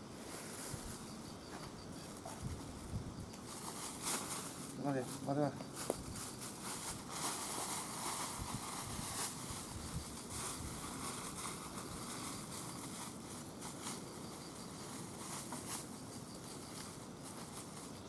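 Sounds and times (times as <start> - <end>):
faint insect chirping: 0.0 - 18.0
steady high hiss: 0.0 - 18.0.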